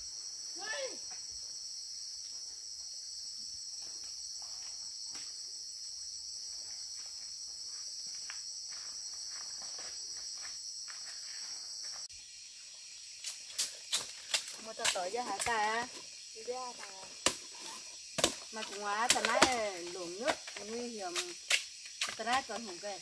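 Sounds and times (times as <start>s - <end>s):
insect chorus drone: 0.0s - 23.0s.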